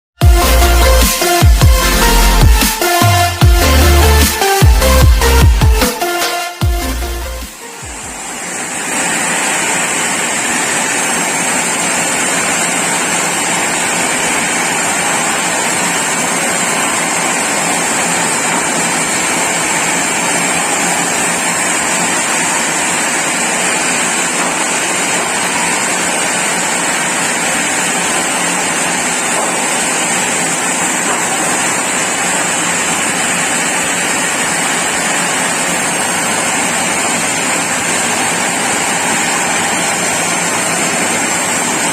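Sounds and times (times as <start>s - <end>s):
sawmill saw running: 0.2s - 41.9s.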